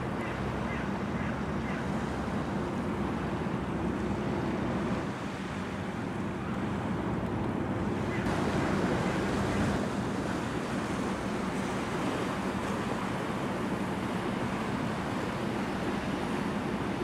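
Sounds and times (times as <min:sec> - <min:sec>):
river water washing: 0:00.0 - 0:17.0
ship engines humming: 0:00.0 - 0:17.0.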